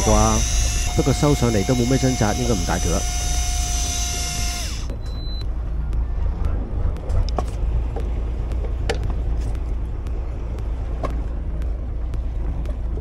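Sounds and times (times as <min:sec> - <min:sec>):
boat engine rumble: 0:00.0 - 0:13.0
wind: 0:00.0 - 0:13.0.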